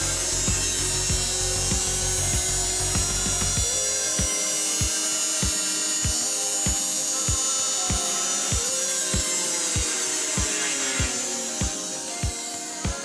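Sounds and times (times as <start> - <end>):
background music with a beat: 0.0 - 13.0
electric motor whining: 0.0 - 13.0.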